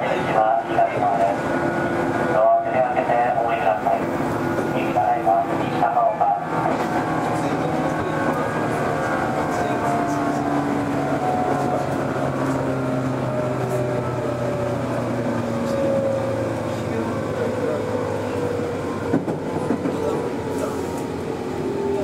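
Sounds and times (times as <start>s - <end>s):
train wheels rumbling on rail: 0.0s - 22.0s
traction motor whine: 4.1s - 22.0s.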